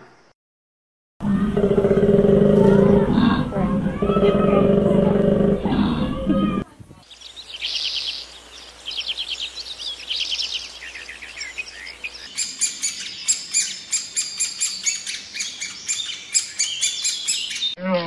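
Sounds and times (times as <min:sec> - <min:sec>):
small birds chirping: 0:01.3 - 0:18.0.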